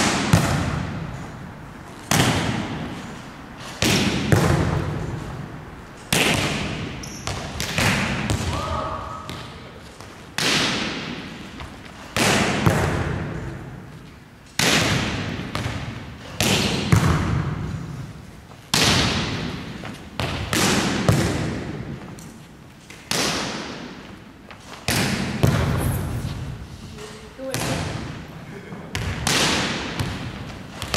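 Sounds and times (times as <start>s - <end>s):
volleyball hits echoing: 0.0s - 14.0s, 14.6s - 22.3s, 22.9s - 24.2s, 24.8s - 26.6s, 27.4s - 30.9s.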